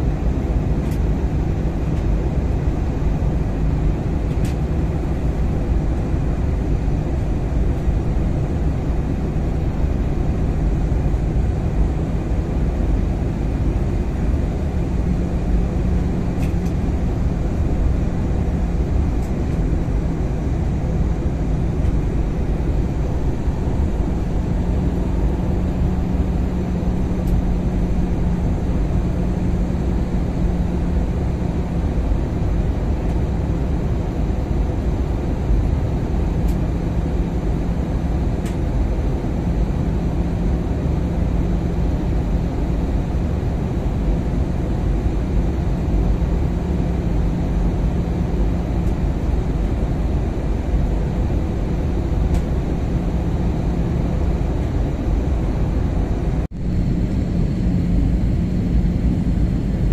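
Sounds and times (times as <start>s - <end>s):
airliner cabin rumble: 0.0s - 59.9s
engine hum: 0.0s - 59.9s.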